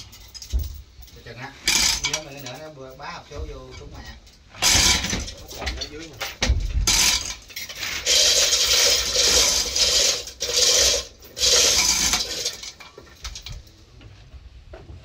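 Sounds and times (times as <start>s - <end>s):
metal clattering and scraping: 0.0s - 13.8s.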